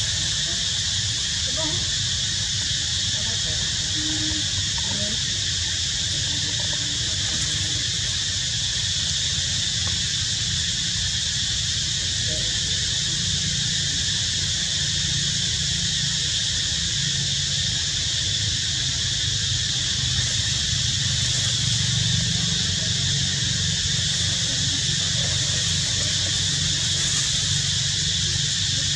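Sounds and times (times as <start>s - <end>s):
high-pitched insect drone: 0.0s - 28.9s.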